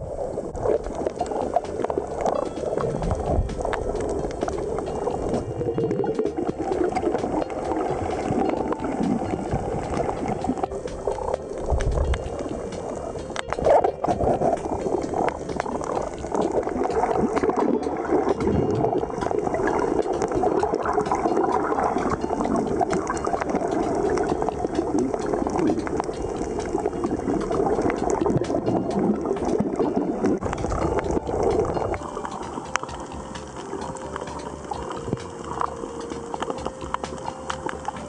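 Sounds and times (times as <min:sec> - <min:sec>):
underwater bubbling crackle: 0:00.0 - 0:38.0.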